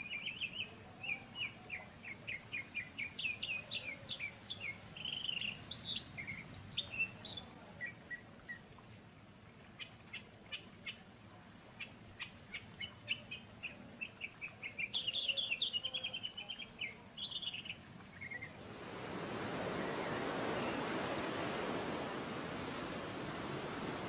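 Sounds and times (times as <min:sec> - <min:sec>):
songbird chirping: 0:00.0 - 0:08.9, 0:09.5 - 0:23.9.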